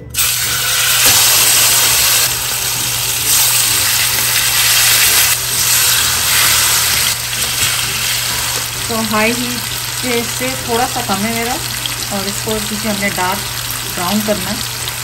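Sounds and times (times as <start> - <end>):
steaks sizzling in frying pan: 0.2 - 15.0.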